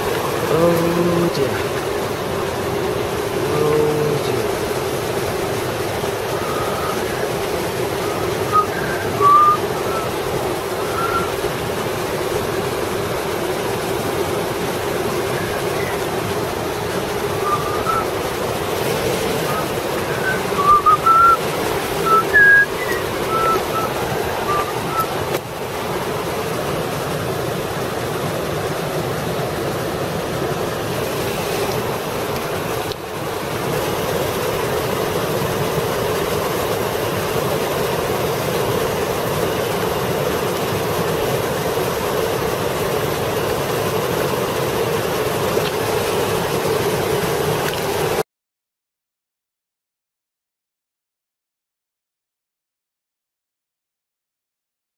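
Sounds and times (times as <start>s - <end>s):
river water rushing: 0.0s - 48.2s.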